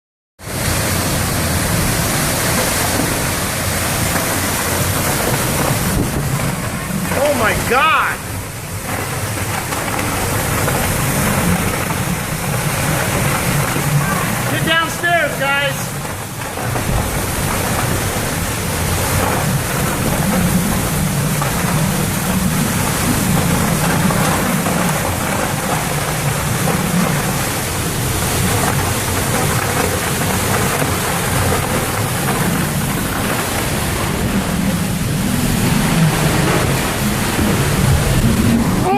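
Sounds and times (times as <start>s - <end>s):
strong wind blowing: 0.5s - 25.4s, 31.0s - 38.9s.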